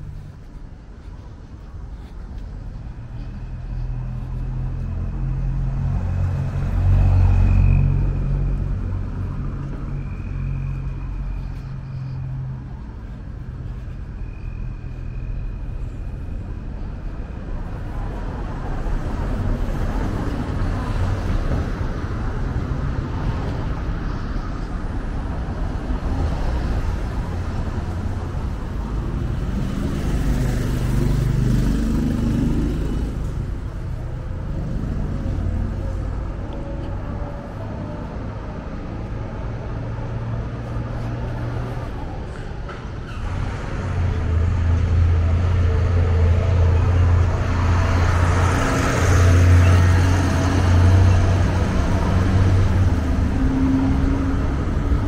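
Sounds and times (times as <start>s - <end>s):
road traffic rumble: 0.0s - 55.0s
vehicle passing close: 2.8s - 13.9s, 17.9s - 55.0s.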